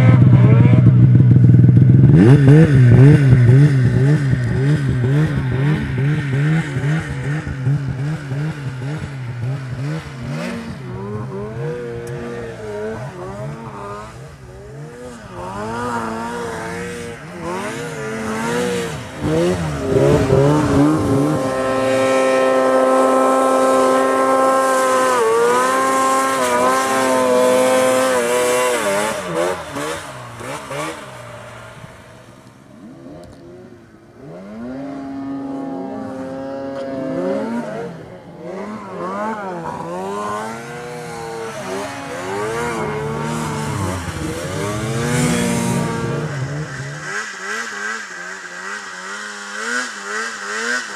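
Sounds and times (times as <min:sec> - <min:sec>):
snowmobile engines revving: 0:00.0 - 0:50.9.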